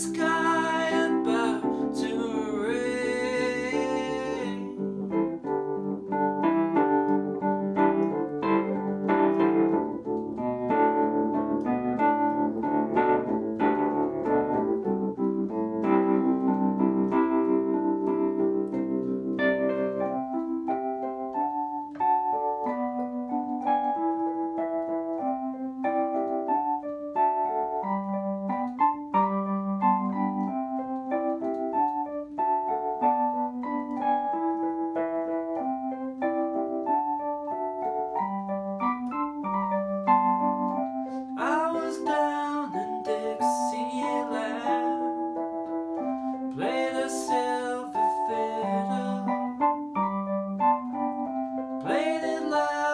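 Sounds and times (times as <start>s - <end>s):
electric piano playing: 0.0s - 52.9s.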